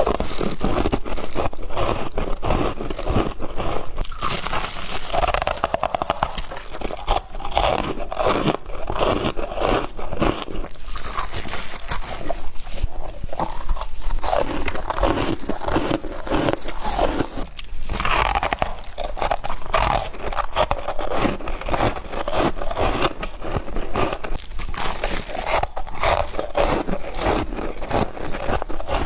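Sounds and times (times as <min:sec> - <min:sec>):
chewing crunchy frost: 0:00.0 - 0:29.0.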